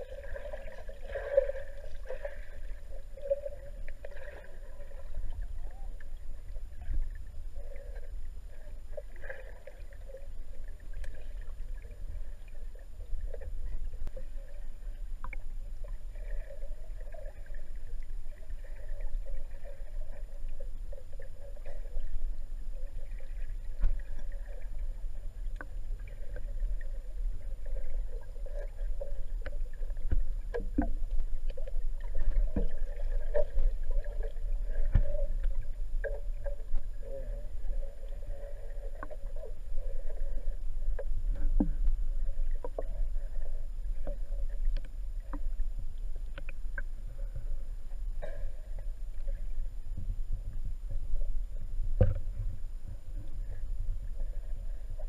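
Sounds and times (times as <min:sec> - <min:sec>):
muffled underwater rumble: 0:00.0 - 0:55.0.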